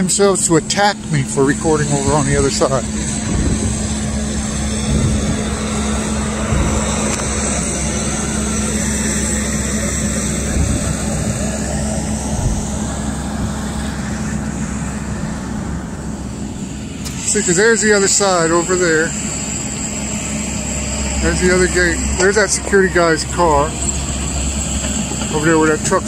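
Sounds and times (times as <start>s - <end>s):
constant low hum: 0.0s - 26.0s
outdoor rushing noise: 0.0s - 26.0s.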